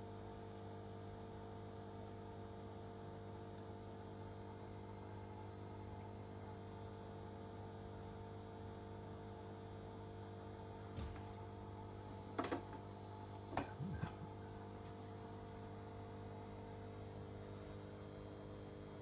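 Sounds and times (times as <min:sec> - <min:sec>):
aquarium equipment hum: 0:00.0 - 0:19.0.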